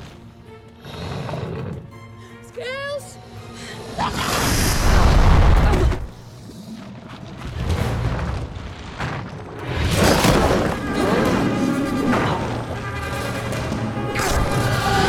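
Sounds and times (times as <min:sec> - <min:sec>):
film music: 0:00.0 - 0:15.0.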